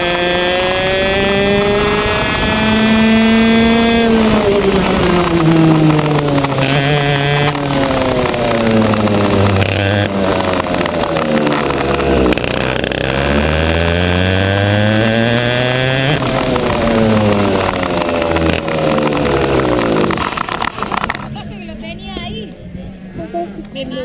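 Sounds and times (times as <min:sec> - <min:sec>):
go-kart engine: 0:00.0 - 0:24.0.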